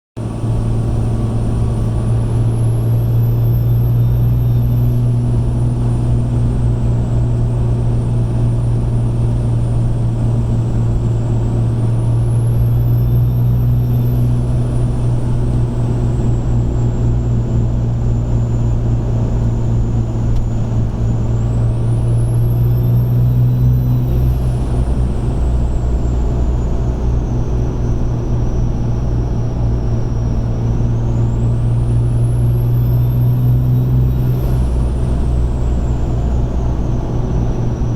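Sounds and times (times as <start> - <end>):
diesel engine droning: 0.2 - 37.9
turbocharger whistling: 0.3 - 37.9.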